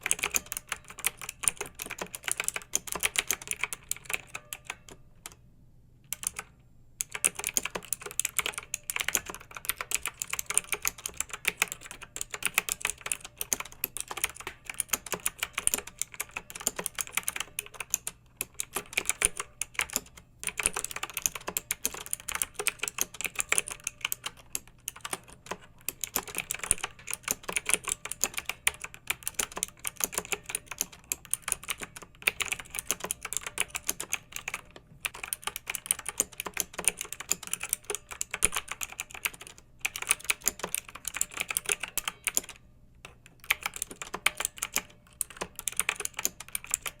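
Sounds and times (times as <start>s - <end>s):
mechanical keyboard typing: 0.0s - 5.4s, 6.1s - 47.0s.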